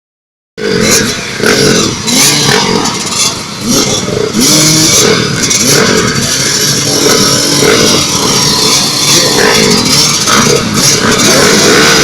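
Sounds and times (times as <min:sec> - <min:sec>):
dirt bike engines revving: 0:00.6 - 0:12.0.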